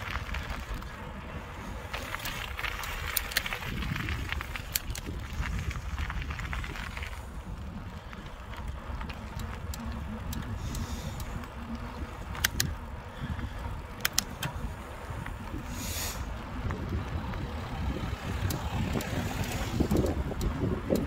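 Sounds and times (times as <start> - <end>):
bike clicks and rattles: 0.0 - 21.0
bike tyres rumbling on tarmac: 0.0 - 21.0
wind on phone microphone: 0.0 - 21.0.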